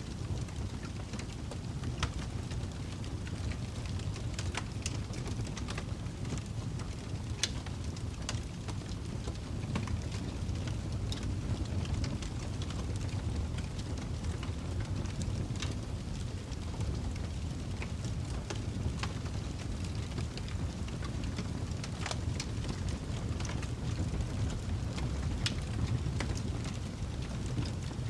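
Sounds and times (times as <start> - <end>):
low steady fire rumble: 0.0 - 28.0
wood fire crackling: 0.0 - 28.0.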